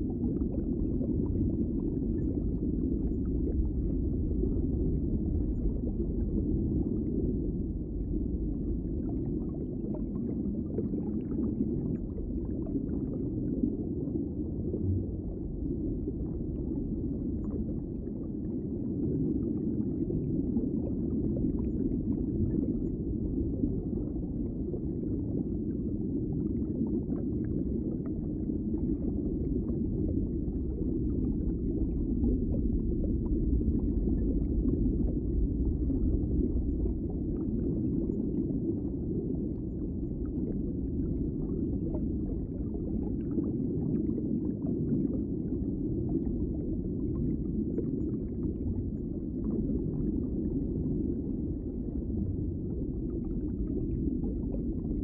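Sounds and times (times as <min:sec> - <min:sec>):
muffled underwater rumble: 0:00.0 - 0:55.0.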